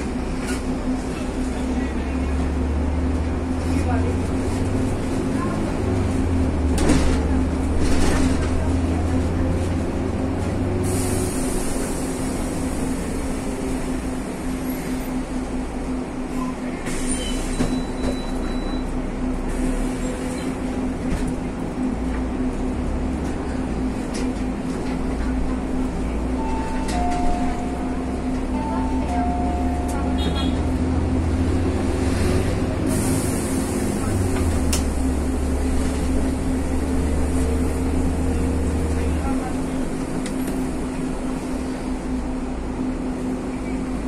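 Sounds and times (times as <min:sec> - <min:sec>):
bus engine drone: 0:00.0 - 0:44.0
road noise: 0:00.0 - 0:44.0.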